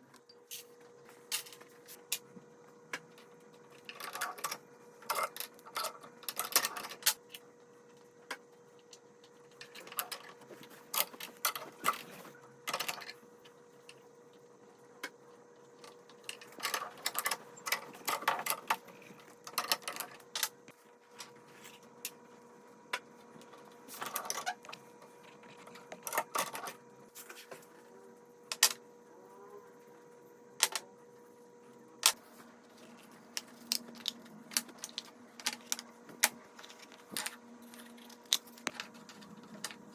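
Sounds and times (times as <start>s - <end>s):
faint hum: 0.0s - 39.9s.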